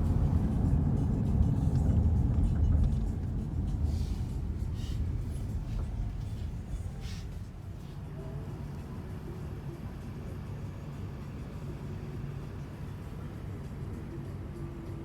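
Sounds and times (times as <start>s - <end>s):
low rumble of car on road: 0.0s - 15.0s.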